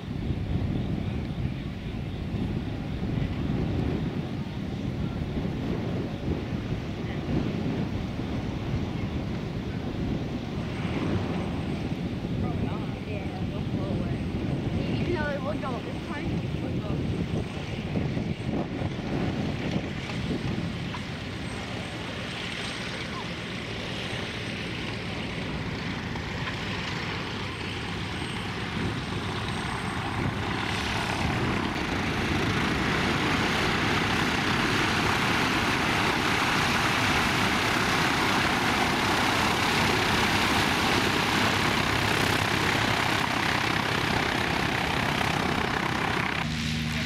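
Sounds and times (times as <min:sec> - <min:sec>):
light aircraft engine running: 0:00.0 - 0:47.0.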